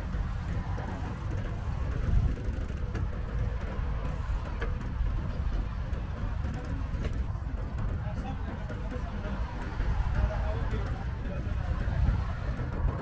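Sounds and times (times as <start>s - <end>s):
bicycle rolling noise: 0.0s - 13.0s
wind rumble: 0.0s - 13.0s.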